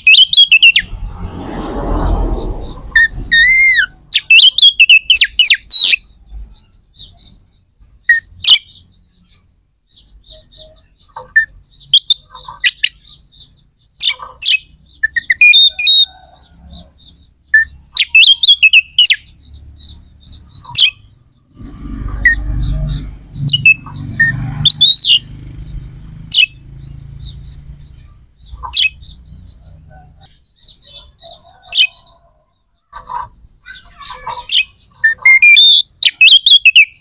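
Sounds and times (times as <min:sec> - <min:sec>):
bird chirping and trilling: 0:00.0 - 0:37.0.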